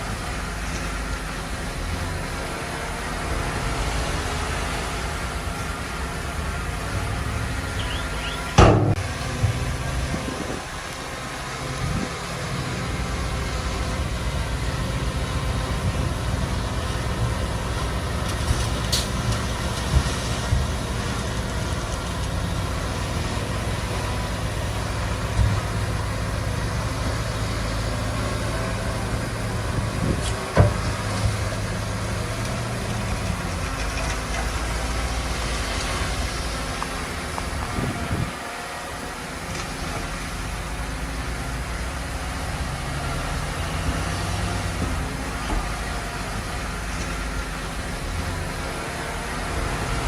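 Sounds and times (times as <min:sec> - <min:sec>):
heavy machinery engine running: 0:00.0 - 0:50.0.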